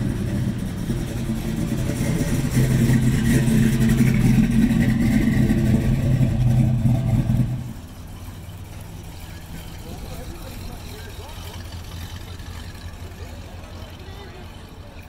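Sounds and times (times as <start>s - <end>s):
truck engine driving past: 0.0s - 15.0s.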